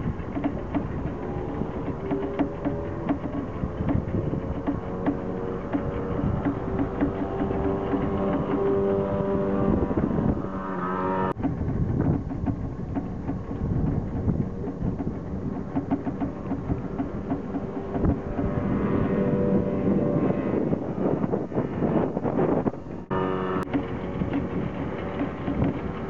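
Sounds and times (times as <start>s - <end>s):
outboard motor droning: 0.0s - 26.0s
wind: 0.0s - 26.0s.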